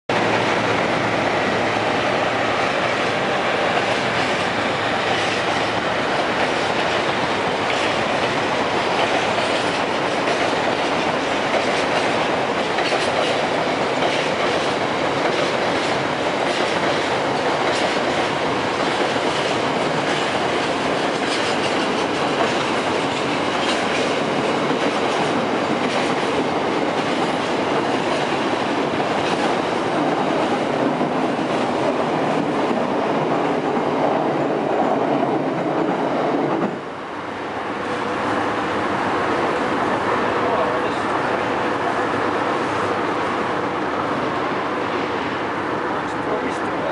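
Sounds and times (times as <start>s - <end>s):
freight train rumbling over bridge: 0.1s - 46.9s.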